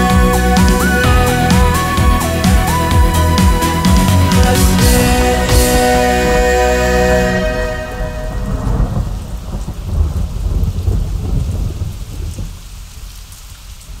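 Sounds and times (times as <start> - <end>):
low rolling thunder: 0.0 - 12.8
rain falling: 0.0 - 14.0.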